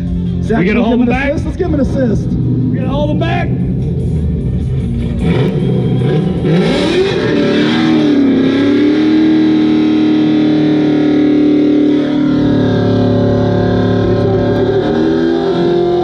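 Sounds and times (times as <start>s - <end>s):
car engine revving hard: 1.6s - 16.0s.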